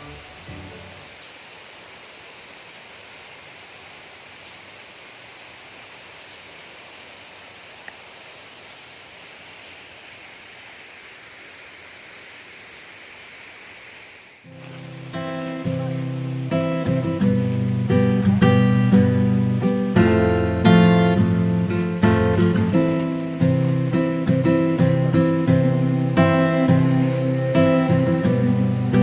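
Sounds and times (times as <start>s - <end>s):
high-pitched insect call: 0.0s - 29.0s
steady hiss: 0.0s - 29.0s.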